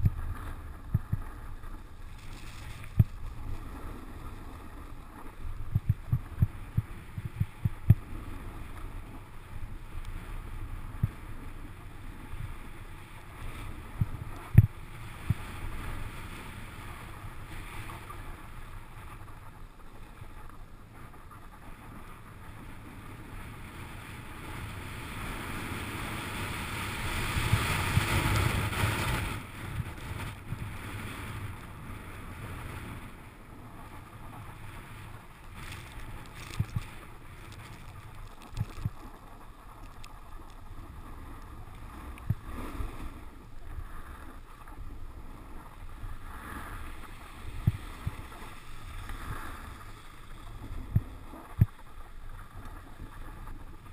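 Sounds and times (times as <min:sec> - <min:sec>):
snowboard sliding over snow: 0:00.0 - 0:53.9.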